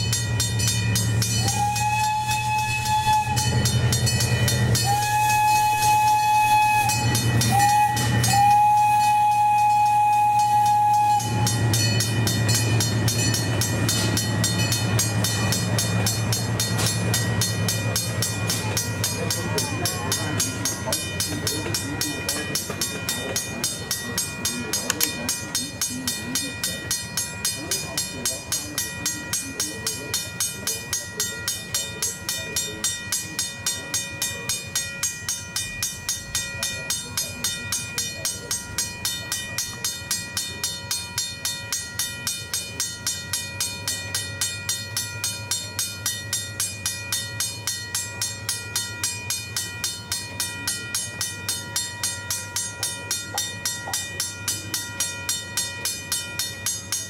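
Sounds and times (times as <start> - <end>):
mechanical crossing bell ringing: 0.0 - 57.0.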